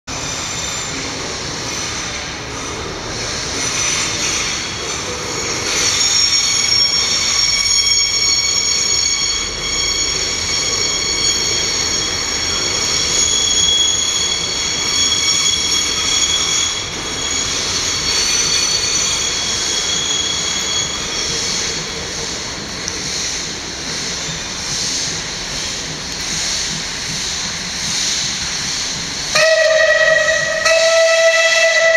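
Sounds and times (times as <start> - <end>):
railway cars rolling rumble: 0.1 - 31.9
train wheels squealing on rails: 0.1 - 31.9.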